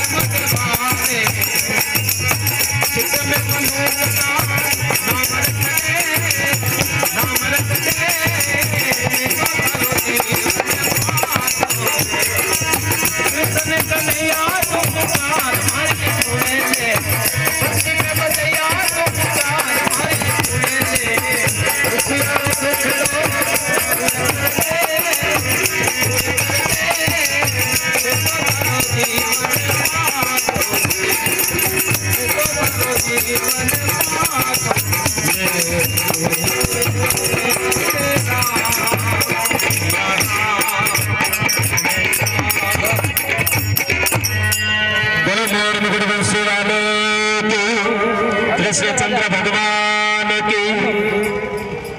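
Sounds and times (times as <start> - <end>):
hand drum beating a rhythm: 0.0 - 44.6
jingling percussion: 0.0 - 47.5, 50.2 - 51.9
harmonium melody: 0.0 - 51.9
man singing: 0.0 - 51.9.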